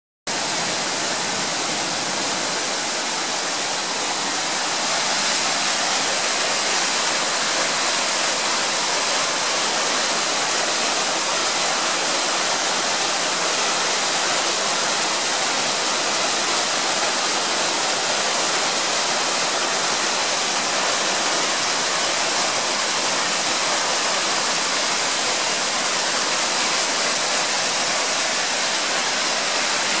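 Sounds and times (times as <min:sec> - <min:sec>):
stream rushing over boulders: 0:00.3 - 0:30.0.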